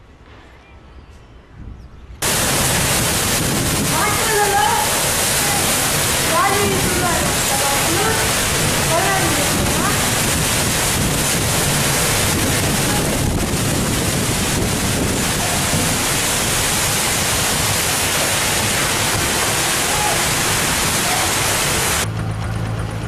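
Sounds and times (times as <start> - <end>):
strong wind lashing trees: 0.0 - 22.1
heavy rain pouring: 2.2 - 22.2.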